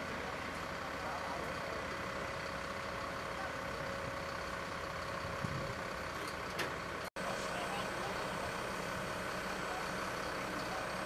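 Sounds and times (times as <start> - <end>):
fire engine running: 0.0 - 11.0.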